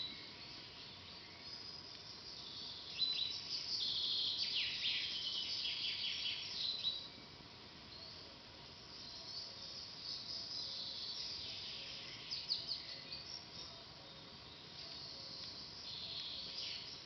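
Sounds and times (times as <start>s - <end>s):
faint steady hiss: 0.0s - 17.0s
songbirds singing: 0.0s - 17.0s.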